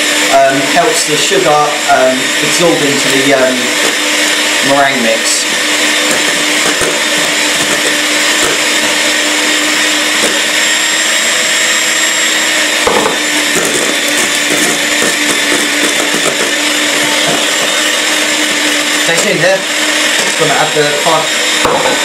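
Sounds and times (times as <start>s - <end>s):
electric hand mixer whisking: 0.0s - 22.0s.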